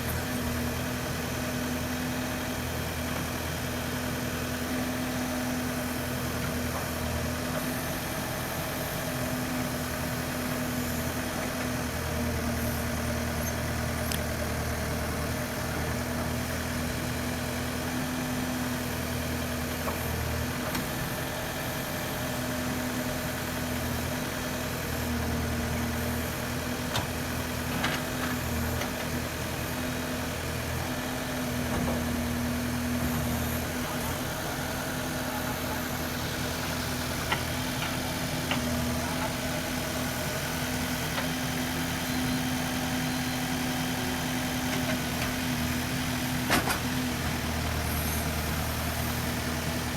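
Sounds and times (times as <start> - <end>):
diesel engine rumbling: 0.0 - 49.9.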